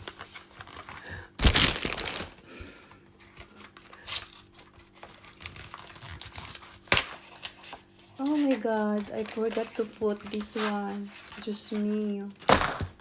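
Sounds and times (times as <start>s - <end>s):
packaging crinkling: 0.0s - 2.4s, 3.4s - 12.7s.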